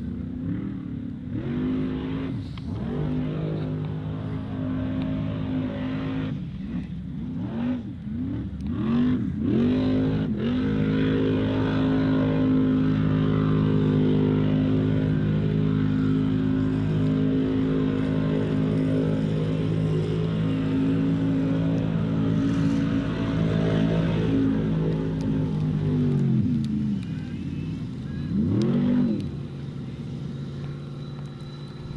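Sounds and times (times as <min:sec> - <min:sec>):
buggy engine revving: 0:00.0 - 0:31.9.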